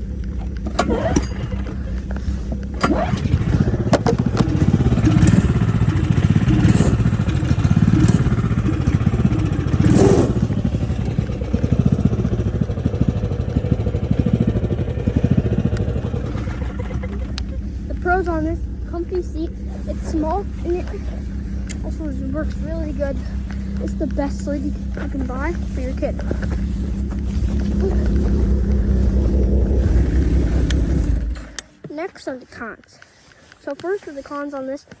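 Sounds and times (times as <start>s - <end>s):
starter clicks: 0.0s - 11.9s, 15.2s - 32.0s
snowmobile engine revving: 0.0s - 31.7s.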